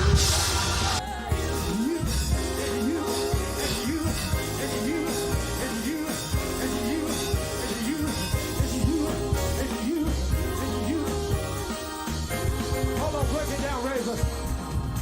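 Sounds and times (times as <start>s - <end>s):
drum kit beat: 0.0s - 15.0s
live band music: 0.0s - 15.0s.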